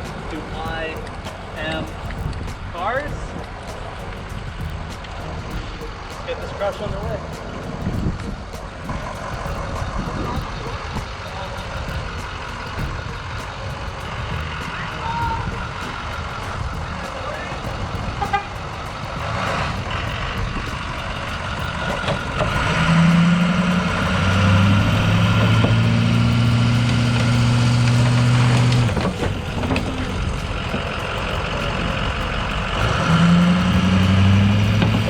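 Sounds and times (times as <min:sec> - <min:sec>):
diesel truck engine revving: 0:00.0 - 0:35.0.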